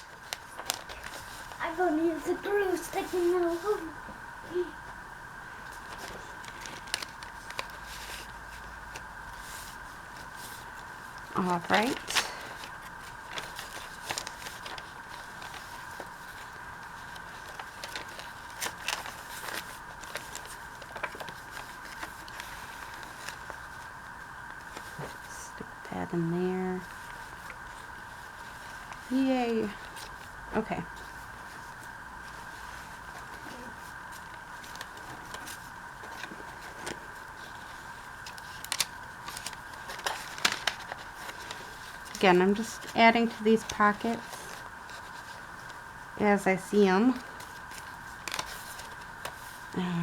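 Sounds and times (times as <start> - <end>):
paper crackling and tapping: 0.0 - 5.0, 5.6 - 49.7
faint background whine: 0.0 - 50.0
faint steady hum: 0.0 - 50.0.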